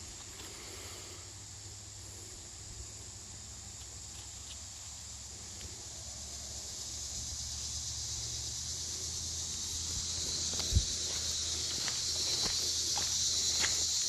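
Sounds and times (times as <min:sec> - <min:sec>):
faint ticks of twigs: 0:00.0 - 0:14.0
insect chorus drone: 0:00.0 - 0:14.0.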